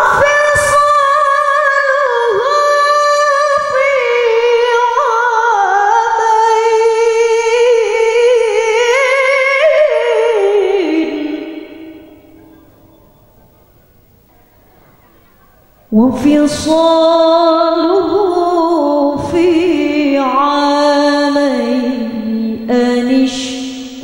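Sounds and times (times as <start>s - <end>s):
woman chanting into microphone: 0.0s - 12.7s, 14.6s - 24.0s.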